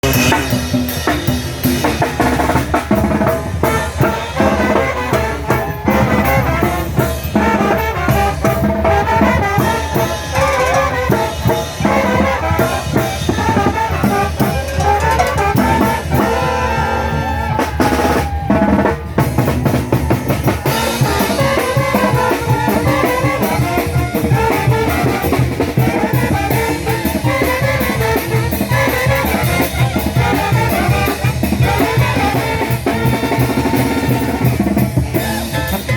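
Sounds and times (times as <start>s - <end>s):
bass drum and snare beat: 0.0s - 35.9s
brass band playing: 0.0s - 35.9s.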